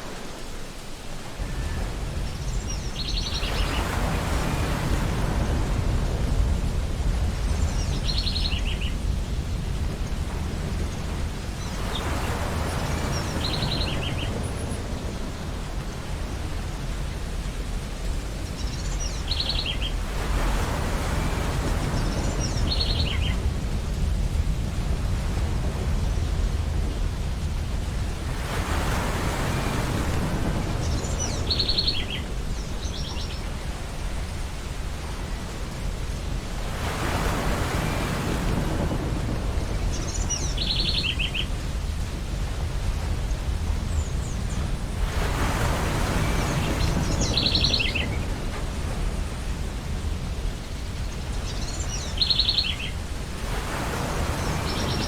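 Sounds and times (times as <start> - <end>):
waves breaking on beach: 0.0 - 55.0
low surf rumble: 0.8 - 55.0.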